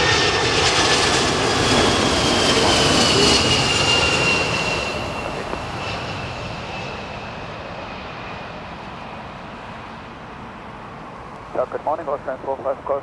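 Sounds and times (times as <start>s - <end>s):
high engine whine: 0.0s - 13.0s
jet airliner passing by: 0.0s - 13.0s.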